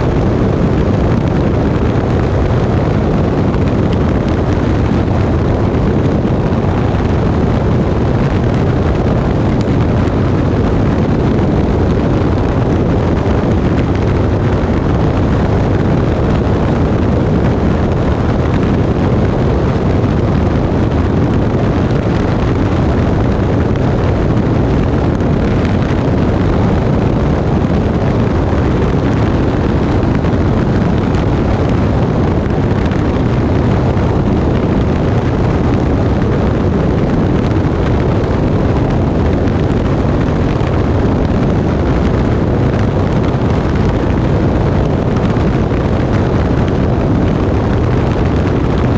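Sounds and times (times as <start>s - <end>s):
aircraft running noise: 0.0s - 48.9s
airflow buffeting microphone: 0.0s - 48.9s.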